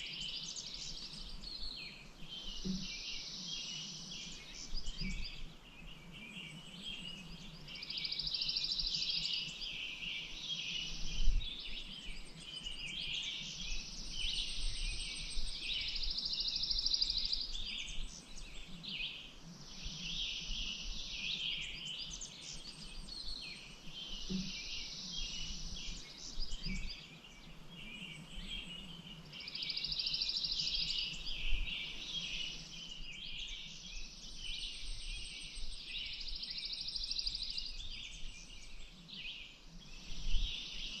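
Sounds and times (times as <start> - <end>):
songbirds singing: 0.0 - 41.0.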